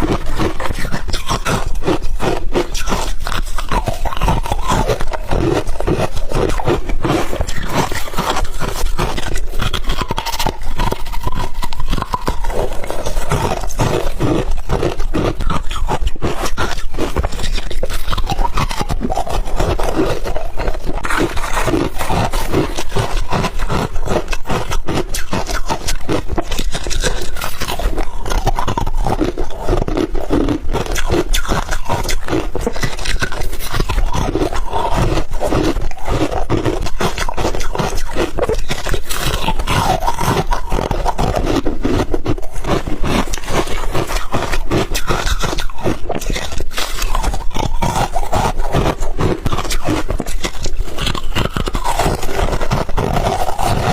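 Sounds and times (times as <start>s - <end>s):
ice being chewed: 0.0s - 53.9s.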